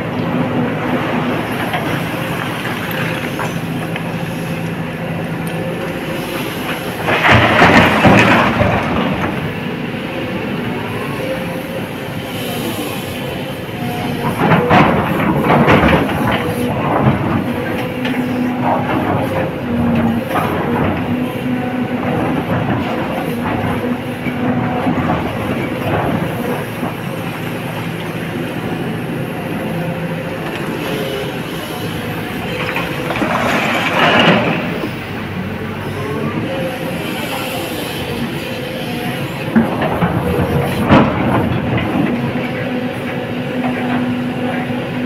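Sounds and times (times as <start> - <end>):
diesel engine under load: 0.0 - 45.0
hydraulic whine: 0.0 - 45.0.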